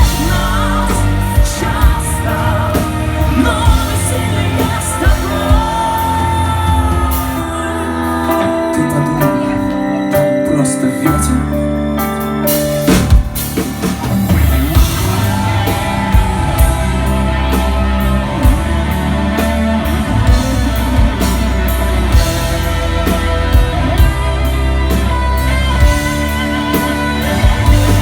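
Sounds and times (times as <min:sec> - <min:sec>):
drum kit beat: 0:00.0 - 0:10.3, 0:12.5 - 0:28.0
rock band playing: 0:00.0 - 0:28.0.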